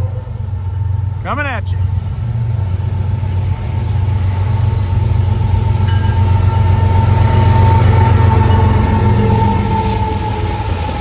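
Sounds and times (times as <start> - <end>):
diesel locomotive engines rumbling: 0.0 - 11.0.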